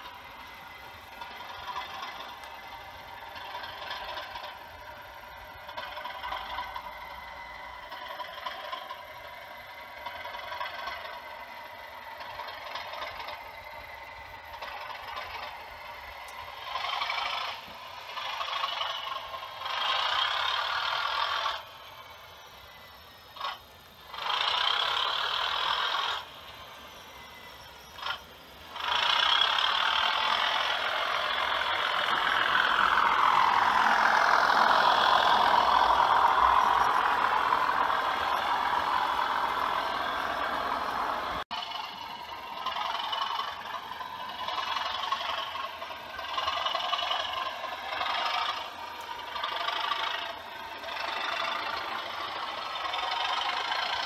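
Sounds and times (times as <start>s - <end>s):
diesel engine sound from small speaker: 0.0s - 54.0s
model wagon wheels rumbling on track: 0.0s - 54.0s.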